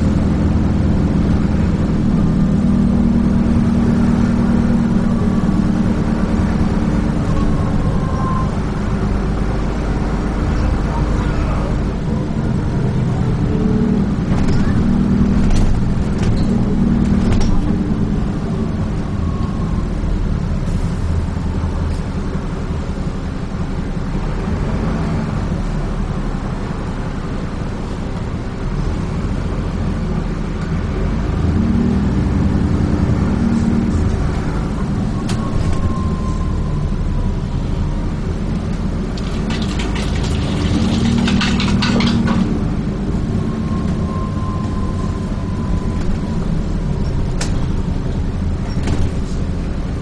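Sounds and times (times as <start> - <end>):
bus body rattles and ticks: 0.0 - 50.0
bus engine running: 0.0 - 50.0.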